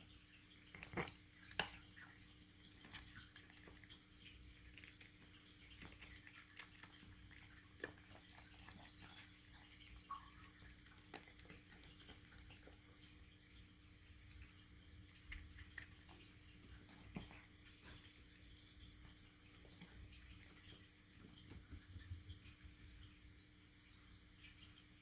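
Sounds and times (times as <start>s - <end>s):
cat eating wet food: 0.0s - 25.0s.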